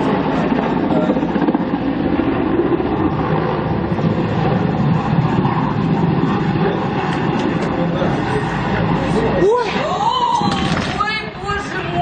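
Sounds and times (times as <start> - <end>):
helicopter rotor and engines rumbling: 0.0 - 12.0.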